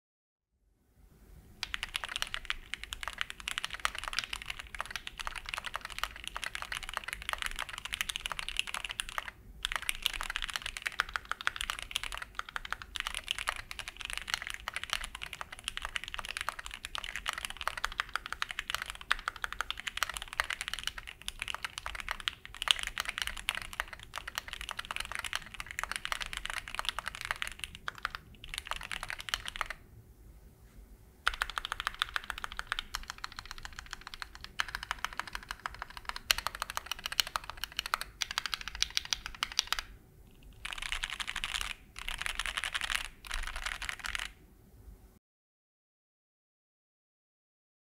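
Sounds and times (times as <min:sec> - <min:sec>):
mechanical keyboard typing: 0:01.6 - 0:29.8, 0:31.2 - 0:44.4.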